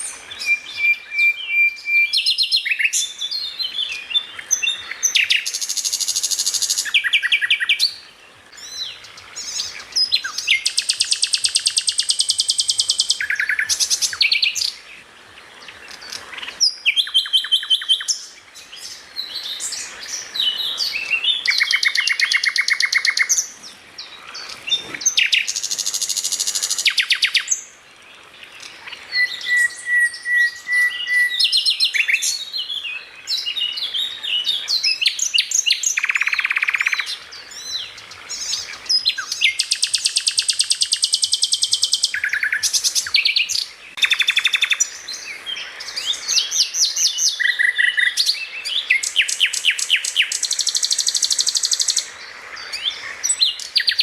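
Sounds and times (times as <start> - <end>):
songbird singing trills and chirps: 0.0 - 54.0.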